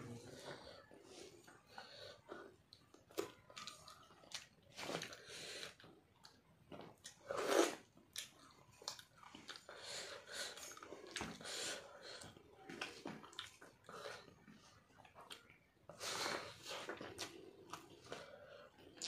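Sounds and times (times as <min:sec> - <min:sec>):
man chewing food: 0:00.1 - 0:19.0.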